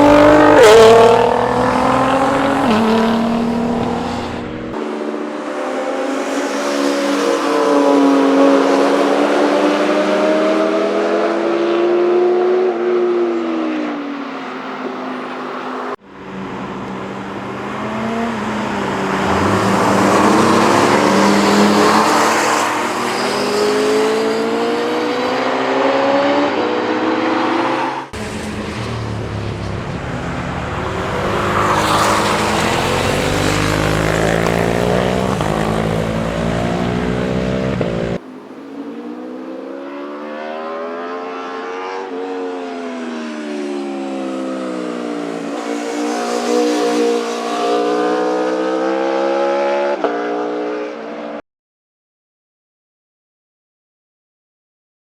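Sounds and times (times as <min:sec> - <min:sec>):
motorcycles passing at speed: 0:00.0 - 0:51.4.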